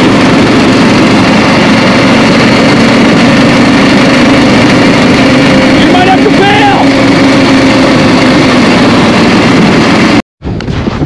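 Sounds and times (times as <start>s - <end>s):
off-road vehicle engine droning: 0.0s - 10.2s.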